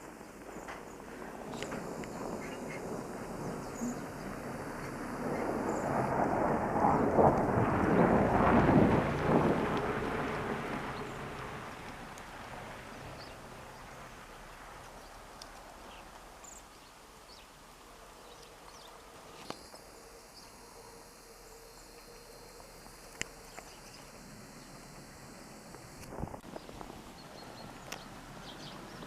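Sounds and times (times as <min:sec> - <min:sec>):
faint outdoor ambience: 0:00.0 - 0:29.0.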